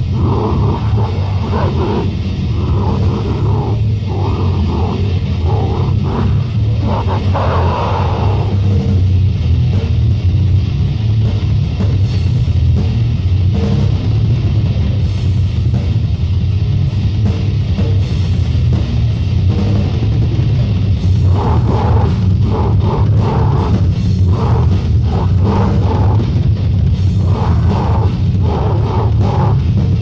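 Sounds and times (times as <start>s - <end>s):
distorted electric guitar: 0.0s - 30.0s
drum kit: 0.0s - 30.0s.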